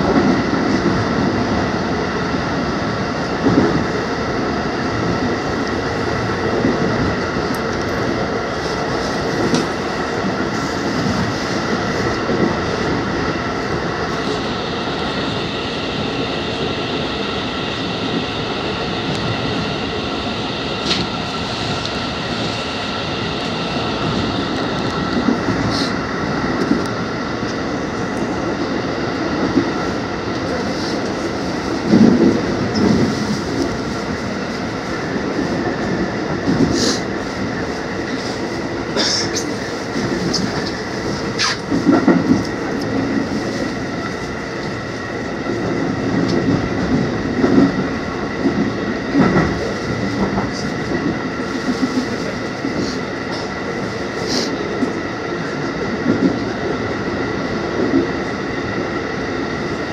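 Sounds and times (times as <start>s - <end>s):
train rumbling through tunnel: 0.0s - 59.9s.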